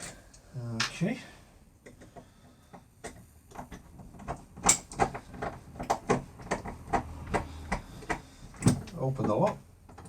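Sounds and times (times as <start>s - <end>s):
lock clicking and knocking: 1.8s - 10.0s.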